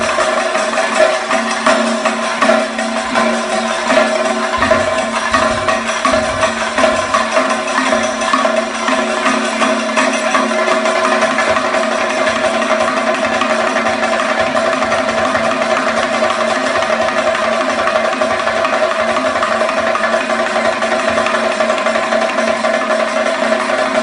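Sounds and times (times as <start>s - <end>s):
drums beaten in fast rhythm: 0.0s - 24.0s
steady ringing tone: 0.0s - 24.0s.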